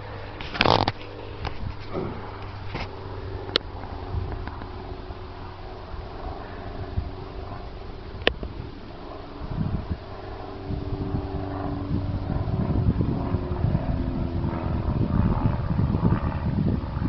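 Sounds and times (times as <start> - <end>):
engine drone: 0.0 - 17.0
wind rumble on microphone: 0.0 - 17.0.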